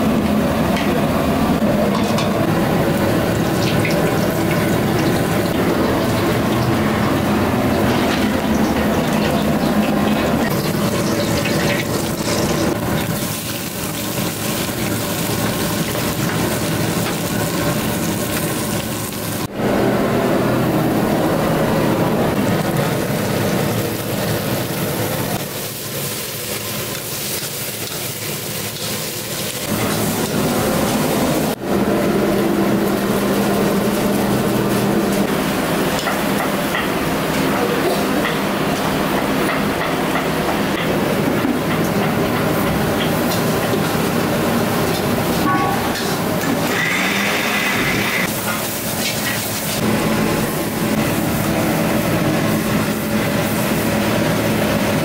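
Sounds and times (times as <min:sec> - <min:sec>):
gas burner: 0:00.0 - 0:55.0
vegetables stir-frying in a wok: 0:00.0 - 0:55.0.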